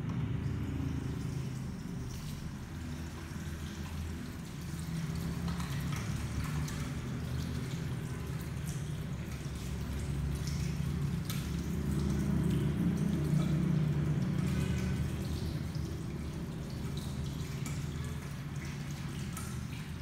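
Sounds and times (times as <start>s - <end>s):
steady low hum: 0.0s - 20.0s
tap water running into basin: 0.0s - 20.0s.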